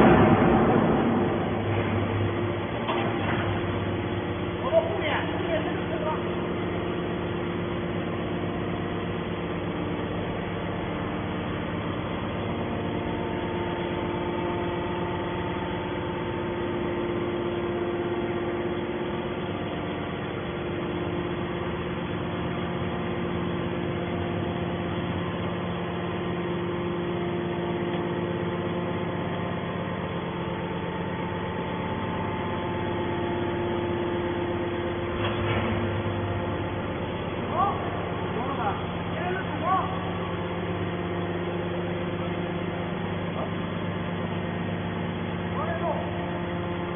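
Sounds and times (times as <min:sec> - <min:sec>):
hydraulic baler humming: 0:00.0 - 0:46.9.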